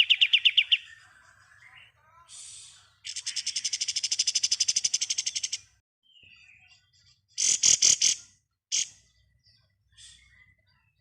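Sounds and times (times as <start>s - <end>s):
bird singing: 0.0s - 2.1s, 3.0s - 11.0s.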